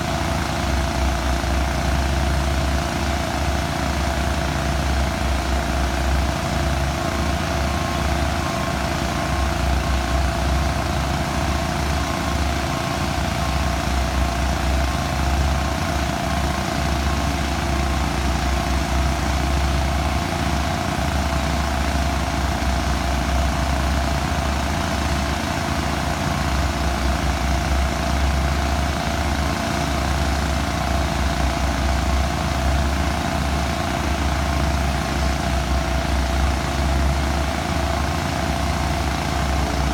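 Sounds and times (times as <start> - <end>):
heavy machinery engines droning: 0.0 - 39.9.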